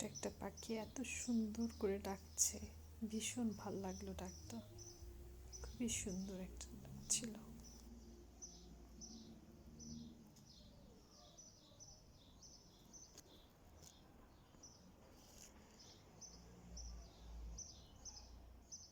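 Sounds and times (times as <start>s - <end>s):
small bird calling: 0.0s - 16.3s.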